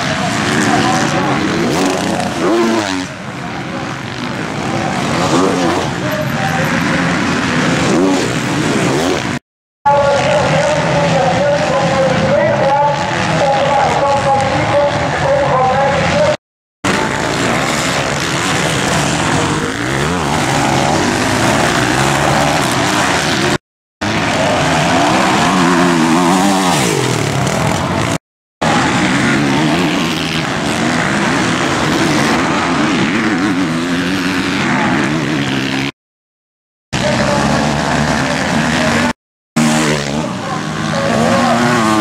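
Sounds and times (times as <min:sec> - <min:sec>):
motocross bike engines revving: 0:00.0 - 0:36.0, 0:37.0 - 0:42.0.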